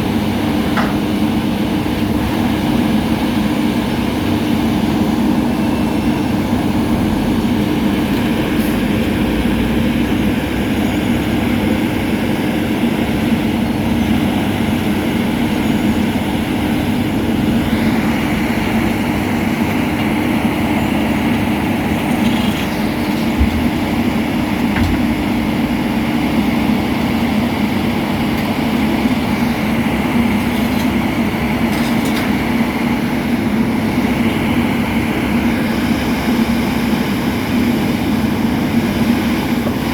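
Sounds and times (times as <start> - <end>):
diesel machinery humming: 0.0 - 39.9.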